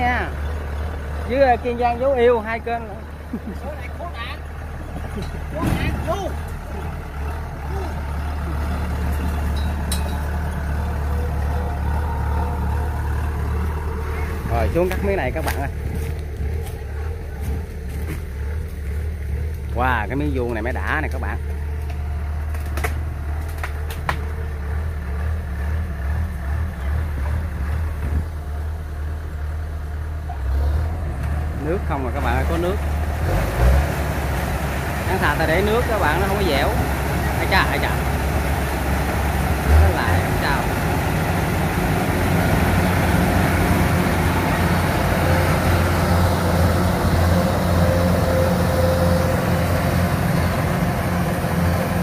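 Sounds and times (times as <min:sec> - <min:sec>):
combine harvester engine drone: 0:00.0 - 0:52.0.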